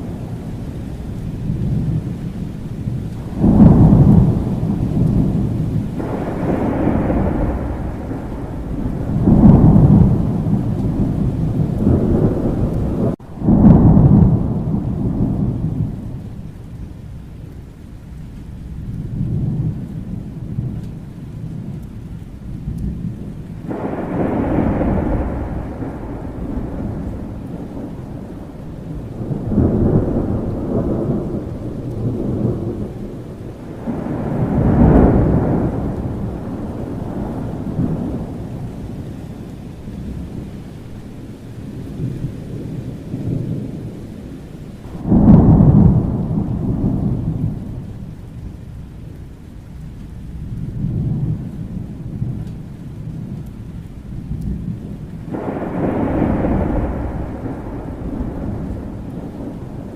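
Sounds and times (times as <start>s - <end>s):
rolling thunder: 0.0s - 59.9s
steady rain: 0.0s - 59.9s.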